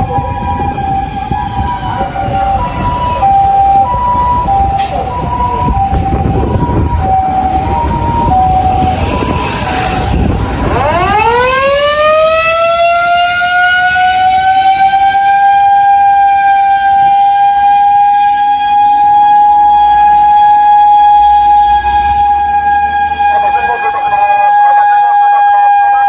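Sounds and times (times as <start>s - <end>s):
mechanical motor siren wailing: 0.0s - 26.0s
two-tone electronic siren: 0.0s - 26.0s.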